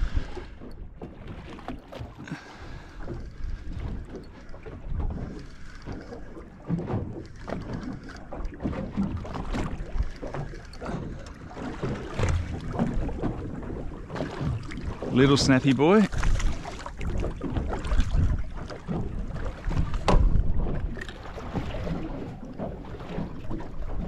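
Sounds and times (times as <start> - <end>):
water slapping boat hull: 0.0 - 24.0
wind buffeting microphone: 2.2 - 24.0.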